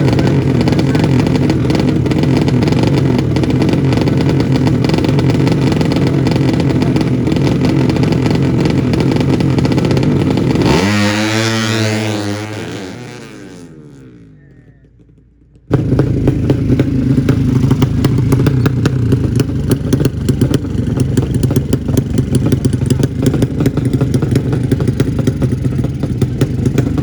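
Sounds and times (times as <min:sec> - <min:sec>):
motorcycle engine at high revs: 0:00.0 - 0:27.0.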